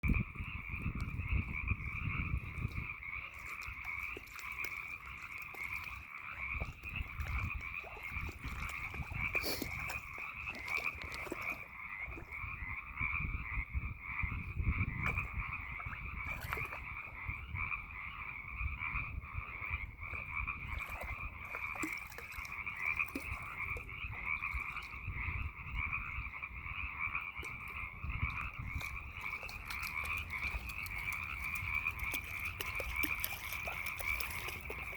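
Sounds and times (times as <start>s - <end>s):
frog chorus: 0.1s - 34.9s.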